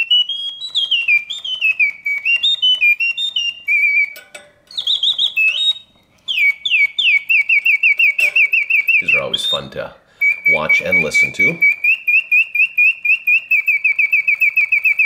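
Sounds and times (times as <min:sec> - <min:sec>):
mechanical bird whistling: 0:00.0 - 0:15.0.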